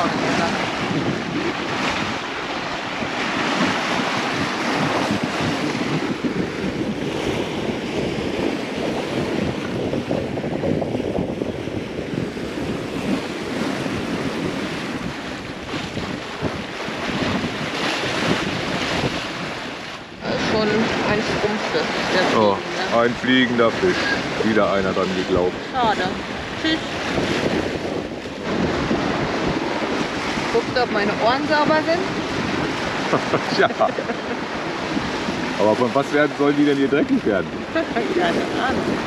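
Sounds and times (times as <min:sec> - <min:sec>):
waves rushing along hull: 0:00.0 - 0:39.0
wind buffeting microphone: 0:00.0 - 0:39.0.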